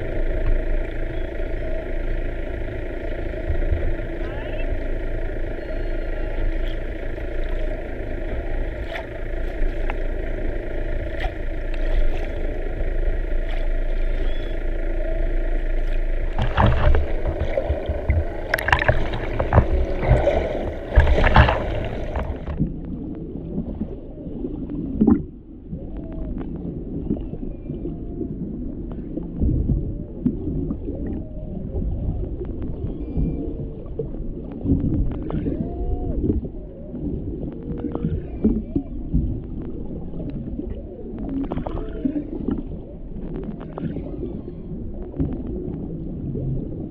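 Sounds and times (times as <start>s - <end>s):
humpback whale song underwater: 0.0s - 46.9s
steady underwater hum: 0.0s - 46.9s.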